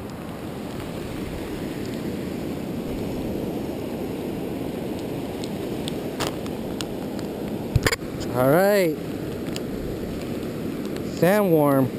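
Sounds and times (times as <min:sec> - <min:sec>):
wind on microphone: 0:00.0 - 0:11.2
ocean surf rumbling: 0:00.0 - 0:11.9.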